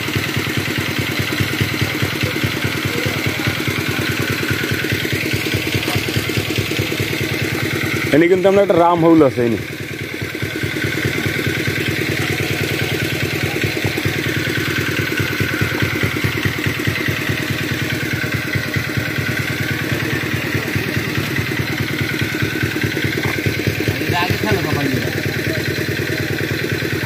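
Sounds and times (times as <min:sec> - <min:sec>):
small pump engine running: 0:00.0 - 0:27.0.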